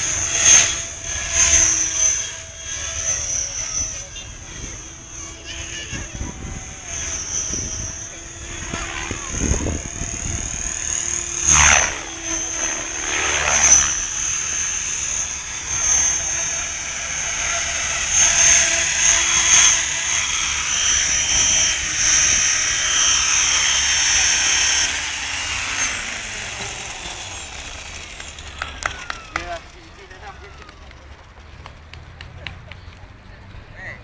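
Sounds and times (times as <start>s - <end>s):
rotor blades rushing: 0.0s - 32.2s
model helicopter whine: 0.0s - 34.0s.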